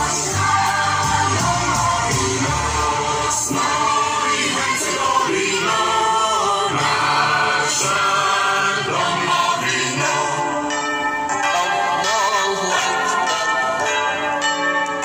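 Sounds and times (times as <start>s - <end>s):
person singing with accompaniment: 0.0s - 15.0s.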